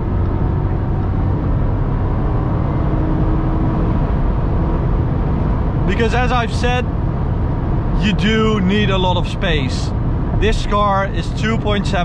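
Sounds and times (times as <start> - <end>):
car cabin drone: 0.0 - 12.0.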